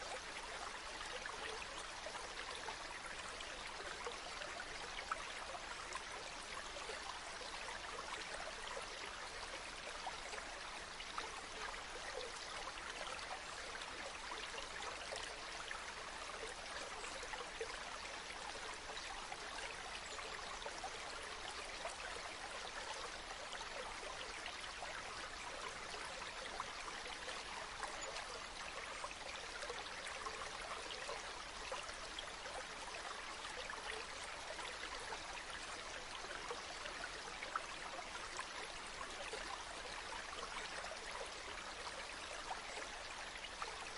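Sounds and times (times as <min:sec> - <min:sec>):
stream trickling: 0:00.0 - 0:43.9.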